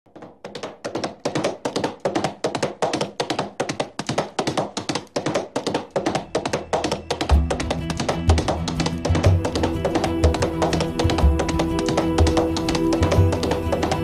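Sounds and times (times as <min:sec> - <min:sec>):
sharp percussive taps: 0:00.1 - 0:14.0.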